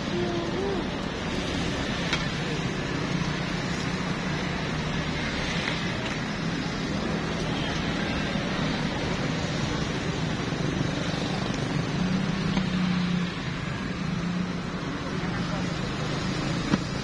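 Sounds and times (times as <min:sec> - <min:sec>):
street noise: 0:00.0 - 0:17.0
vehicle engine humming: 0:00.0 - 0:17.0.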